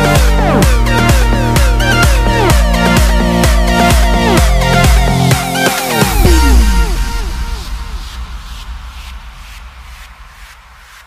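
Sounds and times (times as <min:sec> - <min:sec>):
electronic music with synth glides: 0:00.0 - 0:11.0.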